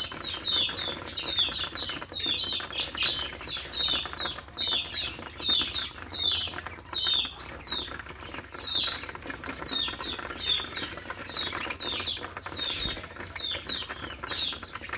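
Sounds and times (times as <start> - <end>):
budgerigar chirping: 0.1 - 9.0, 9.6 - 14.9.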